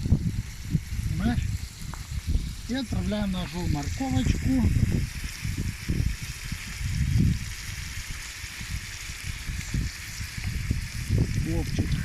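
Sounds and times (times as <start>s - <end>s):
low thumps and rumbles: 0.0s - 12.0s
vegetables sizzling in hot fat: 0.0s - 12.0s.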